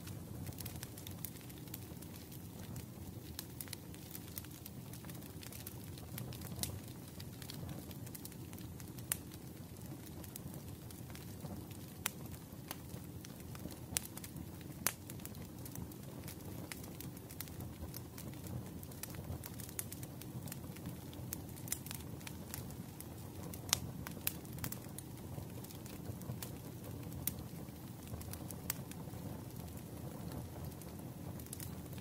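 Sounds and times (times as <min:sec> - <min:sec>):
fire pops and snaps: 0:00.0 - 0:32.0
fire rumbling in fireplace: 0:00.0 - 0:32.0.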